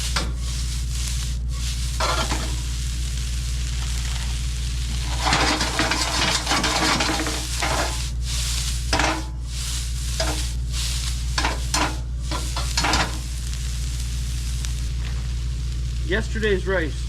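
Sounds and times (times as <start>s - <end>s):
steady low hum: 0.0s - 17.0s
vegetables sizzling in a pan: 0.0s - 17.0s.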